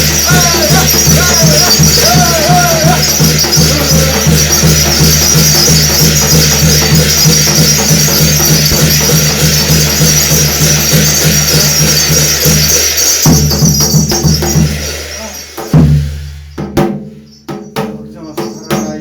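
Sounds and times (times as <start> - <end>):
drum beating fast rhythm: 0.0 - 19.0
jangling metal percussion: 0.0 - 19.0.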